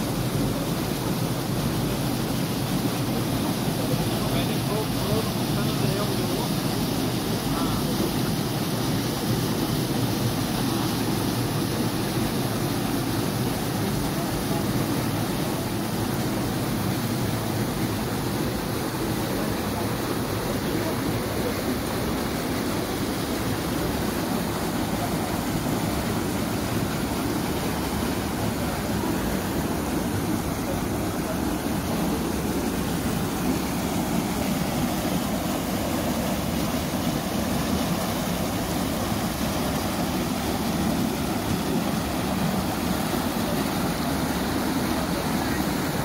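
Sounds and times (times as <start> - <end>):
river water rushing over rocks: 0.0 - 46.0.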